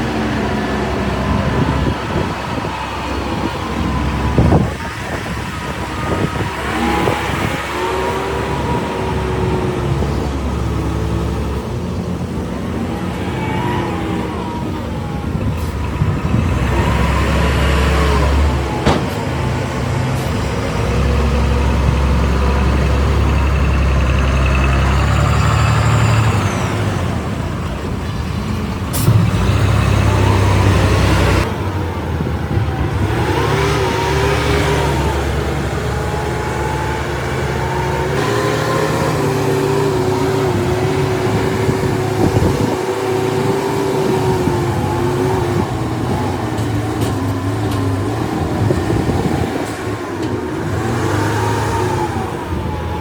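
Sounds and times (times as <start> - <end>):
whining tones: 0.0 - 27.0, 29.1 - 53.0
vehicle engine humming: 0.0 - 53.0.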